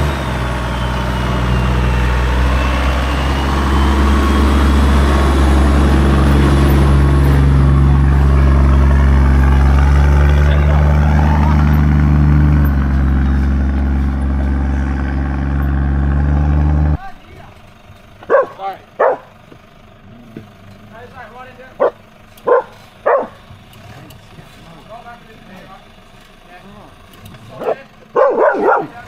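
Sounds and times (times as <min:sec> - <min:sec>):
engine pulling at low revs: 0:00.0 - 0:29.0.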